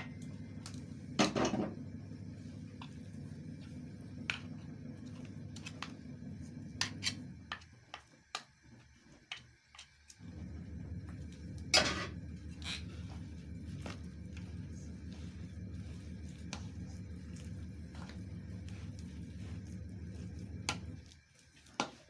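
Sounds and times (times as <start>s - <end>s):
low hum: 0.0s - 7.6s, 10.2s - 21.2s.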